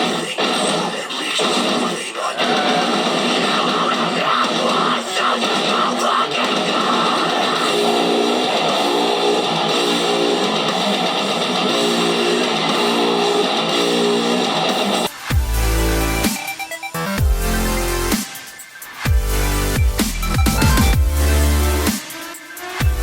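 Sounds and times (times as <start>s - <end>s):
strummed electric guitar music: 0.0s - 23.0s.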